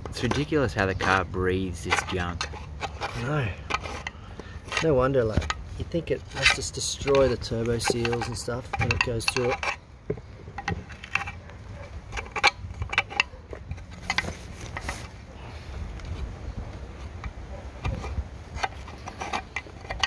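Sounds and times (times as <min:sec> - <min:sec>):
tool scraping and clinking in metal: 0:00.0 - 0:09.8, 0:10.6 - 0:15.2, 0:17.8 - 0:20.0
irregular scrapes and knocks: 0:00.0 - 0:20.0.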